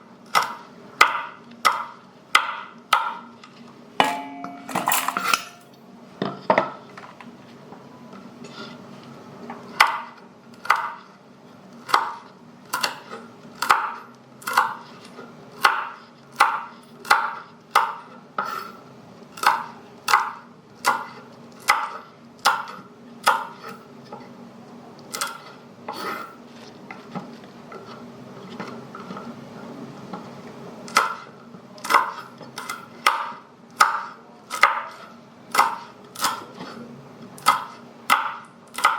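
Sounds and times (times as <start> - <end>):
knife chopping peppers: 0.2 - 5.6, 9.6 - 24.3, 25.1 - 29.3, 30.8 - 38.9.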